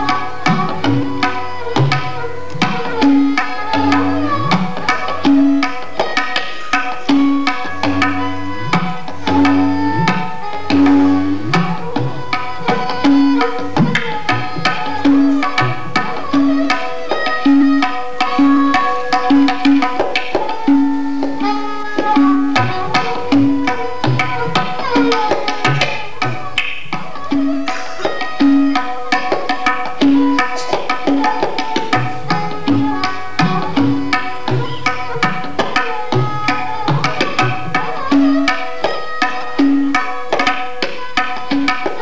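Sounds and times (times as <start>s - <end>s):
bowed string melody: 0.0s - 42.0s
tabla playing: 0.0s - 42.0s.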